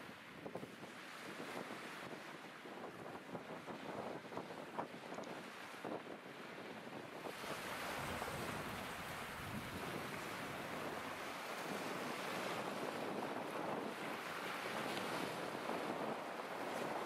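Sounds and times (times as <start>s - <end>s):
waves lapping at shore: 0.0s - 17.0s
wind blowing across microphone: 0.0s - 17.0s.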